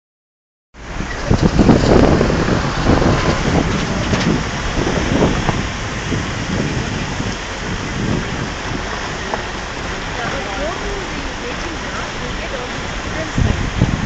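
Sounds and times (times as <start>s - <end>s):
vehicle wind and gravel road noise: 0.8s - 14.0s.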